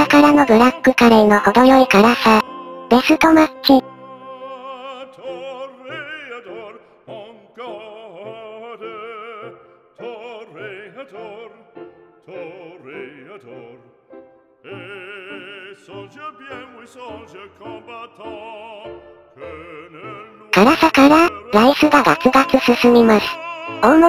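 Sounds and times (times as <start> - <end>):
operatic voice singing: 0.0 - 13.9, 14.6 - 24.0.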